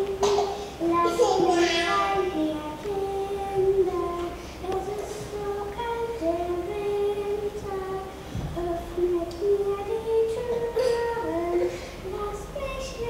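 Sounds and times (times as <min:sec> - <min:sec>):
girl singing solo: 0:00.0 - 0:13.0.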